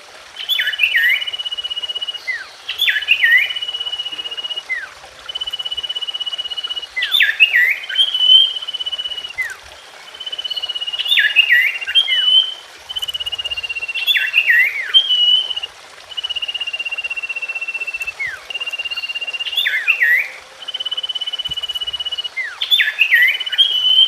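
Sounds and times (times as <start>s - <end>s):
bird trilling and whistling: 0.5s - 24.0s.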